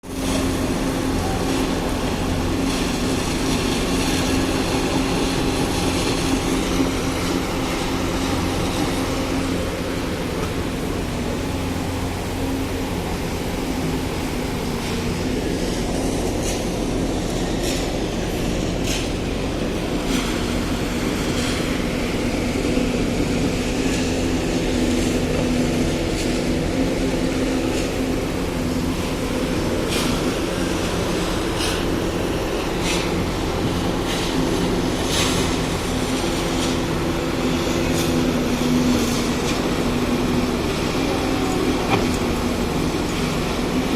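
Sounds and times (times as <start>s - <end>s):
concrete mixer and pump running: 0.0s - 43.9s.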